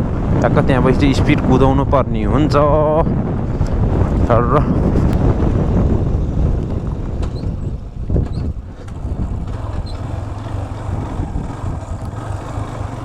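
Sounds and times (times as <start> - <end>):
wind rumbling on microphone: 0.0 - 13.0
motorcycle engine running: 2.4 - 13.0.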